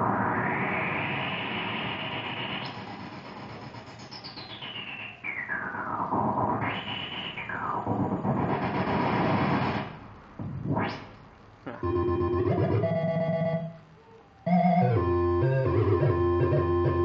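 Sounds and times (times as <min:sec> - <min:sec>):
noisy synthesizer sweep: 0:00.0 - 0:13.9, 0:14.5 - 0:17.0.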